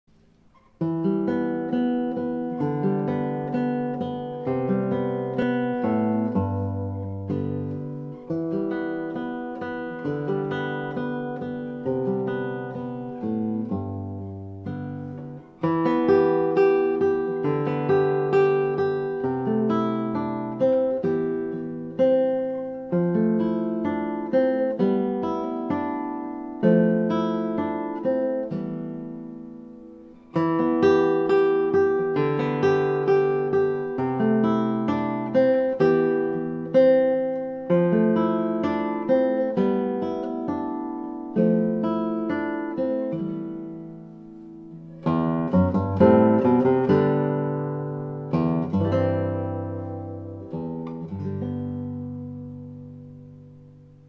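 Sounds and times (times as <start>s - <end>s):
classical guitar playing: 0.1s - 54.0s.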